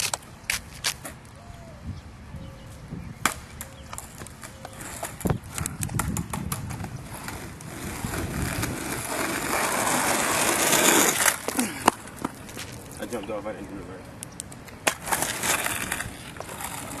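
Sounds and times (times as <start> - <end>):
skateboard wheels rolling on asphalt: 0.0 - 1.4, 2.0 - 17.0.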